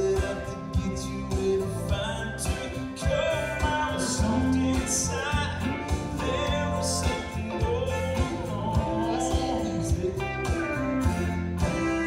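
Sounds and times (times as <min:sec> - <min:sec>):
country band playing: 0:00.0 - 0:12.0
man singing into a microphone: 0:00.0 - 0:12.0
steady bass: 0:00.0 - 0:12.0.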